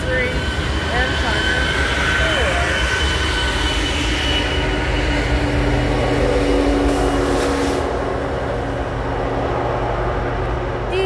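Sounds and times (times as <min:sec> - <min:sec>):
diesel locomotives rumbling past: 0:00.0 - 0:11.0.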